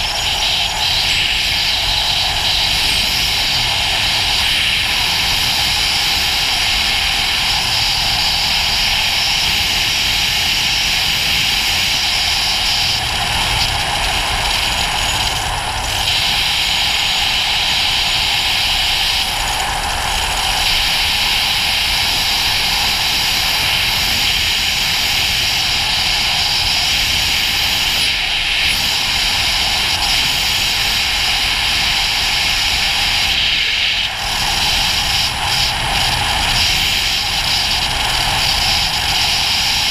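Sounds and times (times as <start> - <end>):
low motorcycle engine drone: 0.0 - 39.9
wind rush on microphone: 0.0 - 39.9.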